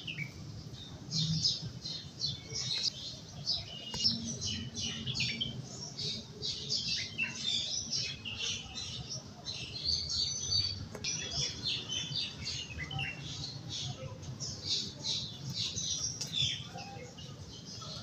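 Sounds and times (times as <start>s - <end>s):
bulbuls chirping: 0.0s - 18.0s.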